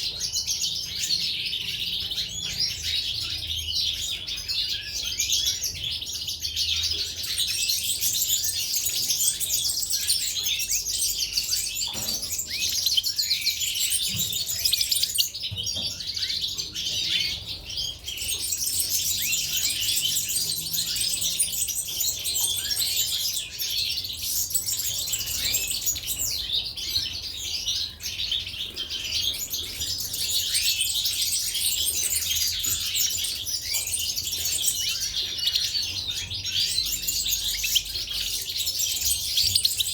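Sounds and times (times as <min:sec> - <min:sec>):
small songbirds chirping and singing: 0:00.0 - 0:39.9.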